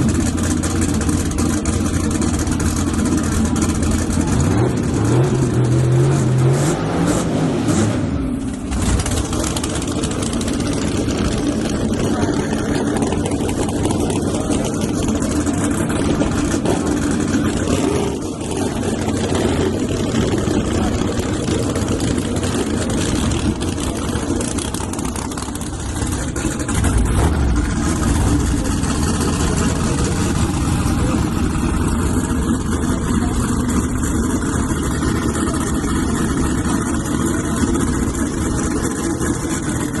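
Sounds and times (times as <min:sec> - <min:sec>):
loud racing truck engines: 0:00.0 - 0:40.0.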